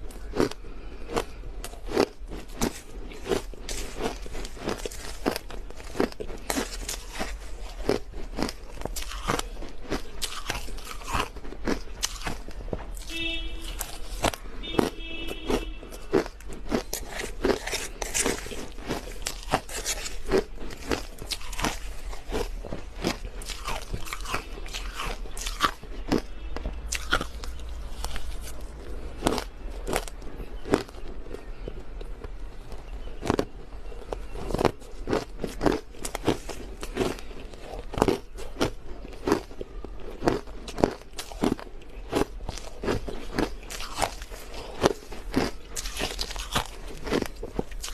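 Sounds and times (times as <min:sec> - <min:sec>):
crushed ice being chewed: 0:00.0 - 0:47.9.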